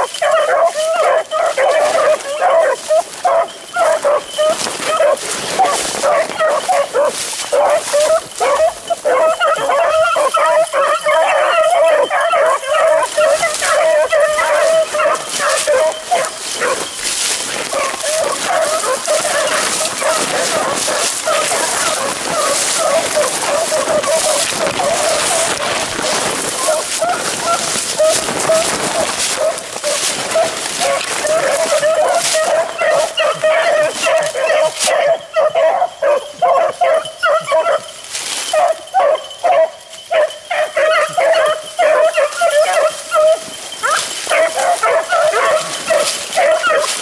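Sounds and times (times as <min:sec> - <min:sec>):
brush rustling and scraping: 0:00.0 - 0:47.0
hounds baying: 0:00.0 - 0:47.0.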